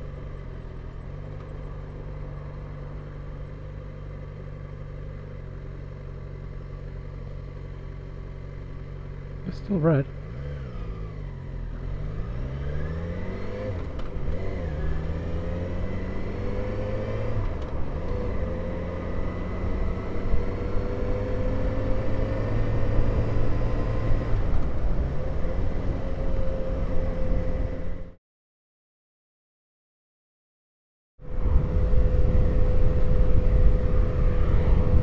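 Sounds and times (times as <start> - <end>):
motorcycle engine accelerating: 0.0 - 28.2, 31.2 - 35.0.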